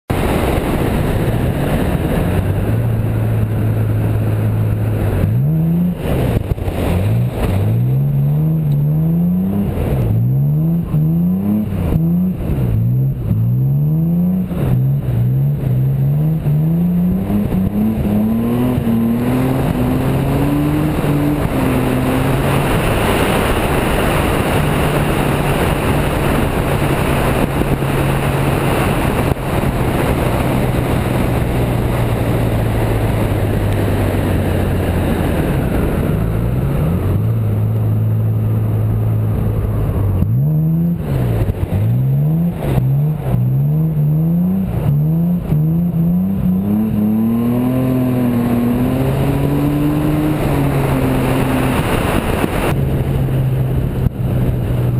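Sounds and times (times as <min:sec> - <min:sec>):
road and wind noise: 0:00.0 - 0:54.9
car engine revving: 0:00.1 - 0:54.9.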